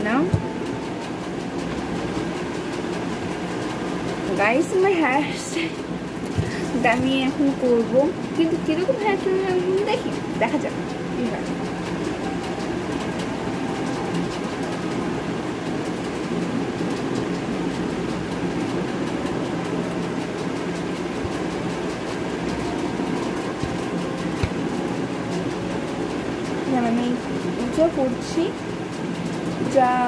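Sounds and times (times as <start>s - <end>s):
droning background noise: 0.0s - 30.0s.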